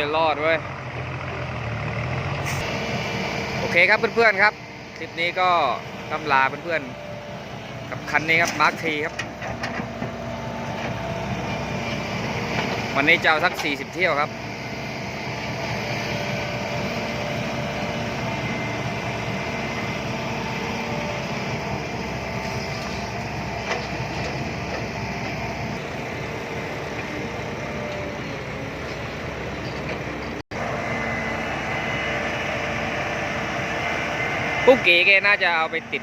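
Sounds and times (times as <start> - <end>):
truck engine running: 0.0 - 36.0
whining tones: 1.1 - 36.0.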